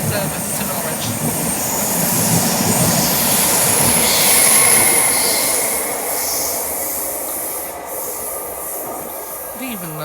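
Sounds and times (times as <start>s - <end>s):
train wheels rushing: 0.0s - 10.0s.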